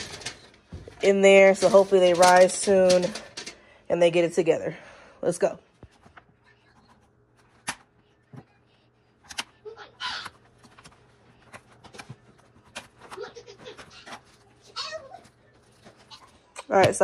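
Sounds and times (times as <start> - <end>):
faint low hum: 0.0 - 17.0
groceries rustling: 0.0 - 17.0.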